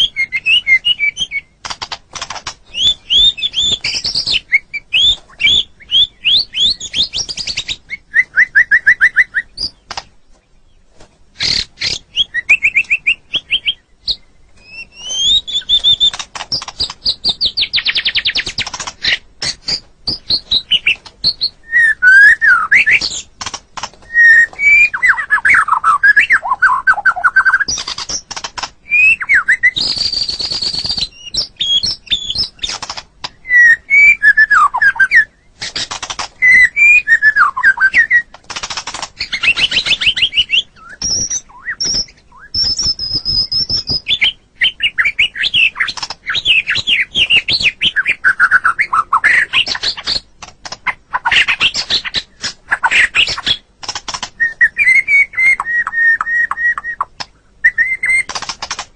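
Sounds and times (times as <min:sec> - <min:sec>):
bird singing varied song: 0:00.0 - 0:58.9.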